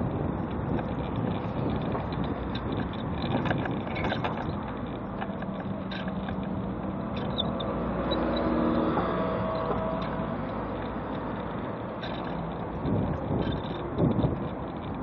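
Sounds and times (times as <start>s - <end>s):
light rattles and clicks: 0.0s - 15.0s
mobility scooter motor and wheels: 0.0s - 15.0s
road traffic passing: 0.0s - 15.0s.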